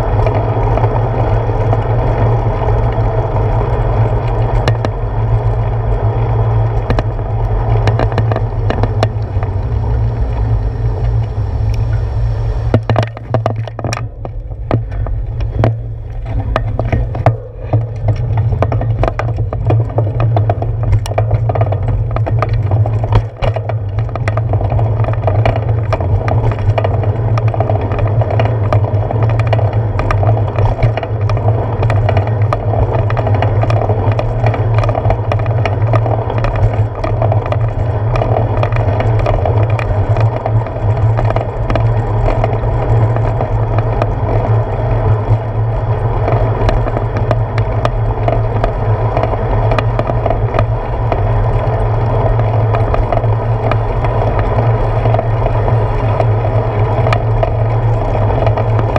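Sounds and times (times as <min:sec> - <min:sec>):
bicycle knocks and rattles: 0:00.0 - 0:58.9
wind and road rumble: 0:00.0 - 0:58.9.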